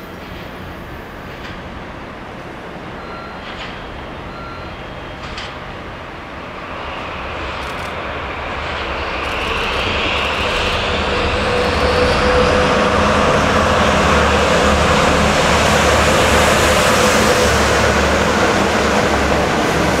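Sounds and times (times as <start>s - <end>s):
diesel locomotive passing: 0.0s - 20.0s.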